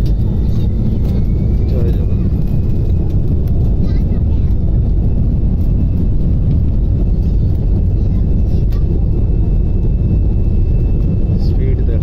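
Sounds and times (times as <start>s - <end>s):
jet engines rumbling on takeoff: 0.0s - 12.0s.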